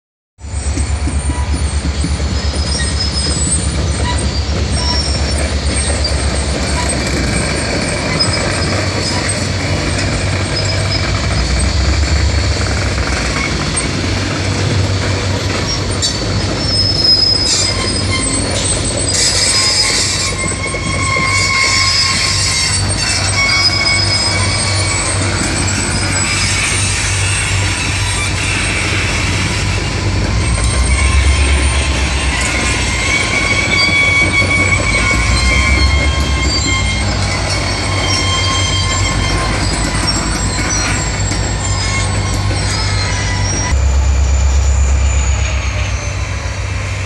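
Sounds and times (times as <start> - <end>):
freight train rumbling past: 0.4 - 47.0
train wheels squealing on rails: 0.4 - 47.0.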